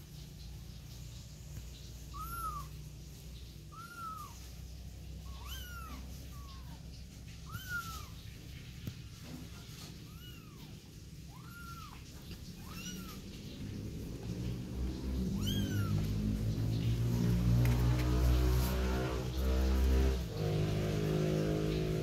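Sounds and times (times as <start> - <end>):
kittens mewing: 1.6 - 20.4.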